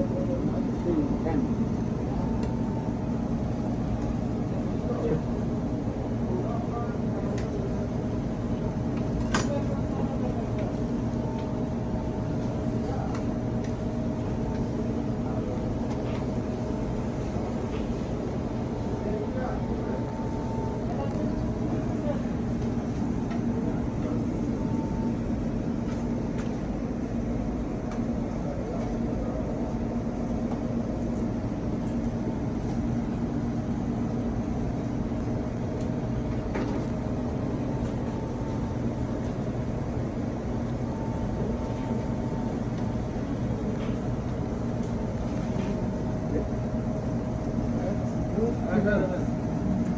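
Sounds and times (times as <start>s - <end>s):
kitchen equipment humming: 0.0s - 46.4s.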